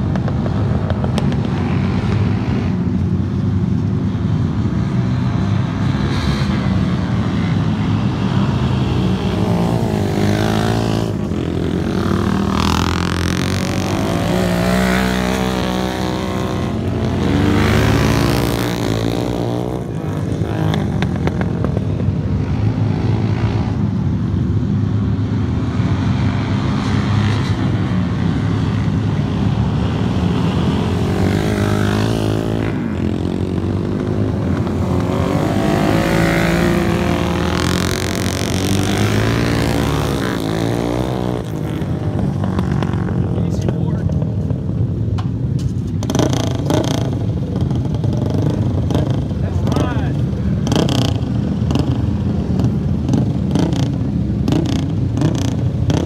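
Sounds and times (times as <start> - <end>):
racing motorcycle engines: 0.0 - 56.0.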